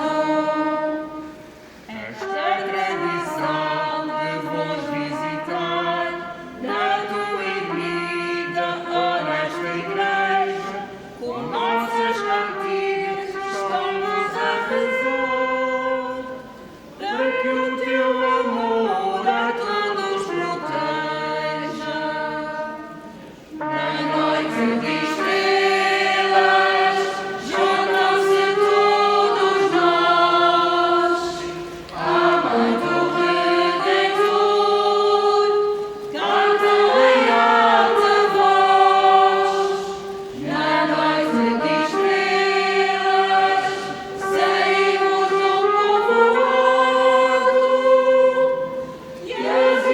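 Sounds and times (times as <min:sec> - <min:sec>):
group of voices singing: 0:00.0 - 0:01.0, 0:01.8 - 0:49.9.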